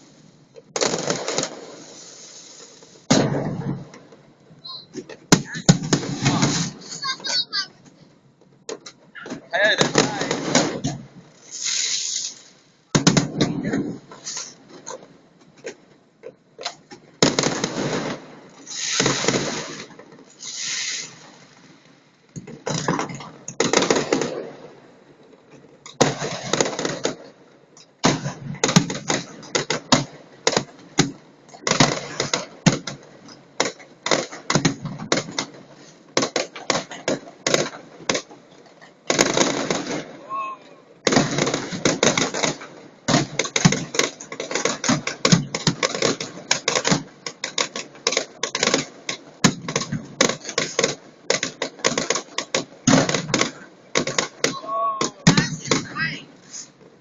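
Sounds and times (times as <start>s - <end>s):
crackling firework bursts: 0.0s - 57.0s
fireworks exploding: 0.0s - 57.0s.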